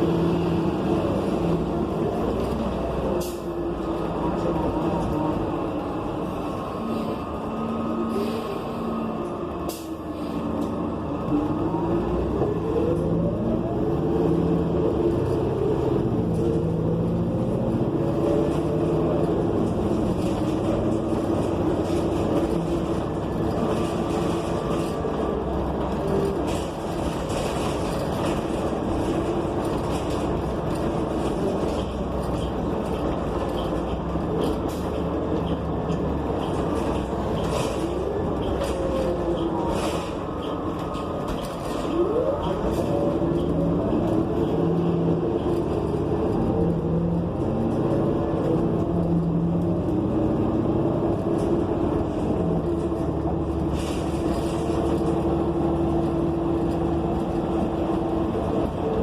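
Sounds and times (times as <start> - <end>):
bus engine whining: 0.0 - 59.0
road noise: 0.0 - 59.0.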